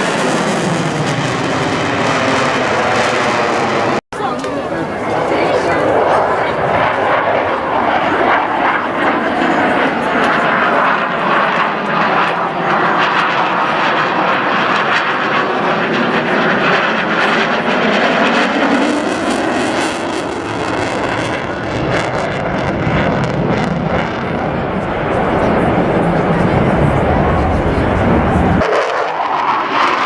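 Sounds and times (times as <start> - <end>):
military aircraft flying past: 0.0 - 30.0.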